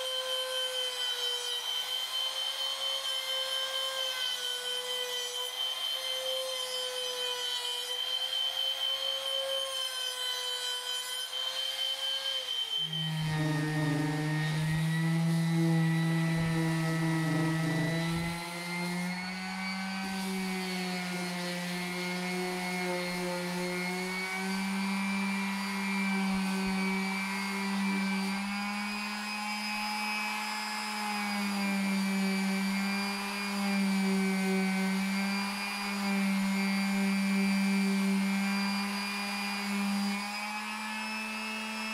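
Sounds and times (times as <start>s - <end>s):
palm sander humming: 0.0s - 41.9s
router high whine: 0.0s - 41.9s.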